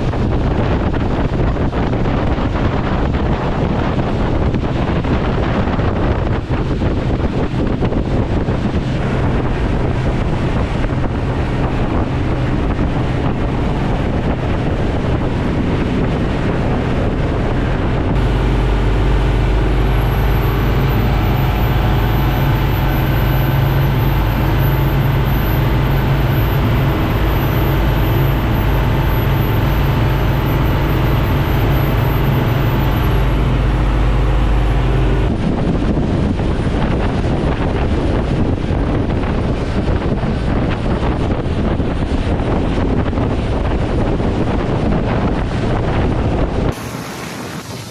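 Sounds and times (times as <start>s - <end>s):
boat engine running: 0.0s - 47.9s
rushing wind: 0.0s - 47.9s
water noise: 0.0s - 47.9s.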